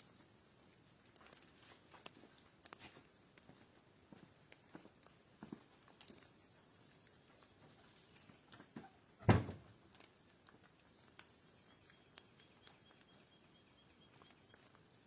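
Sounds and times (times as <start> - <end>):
faint clicks and ticks: 0.0 - 8.9, 9.6 - 15.0.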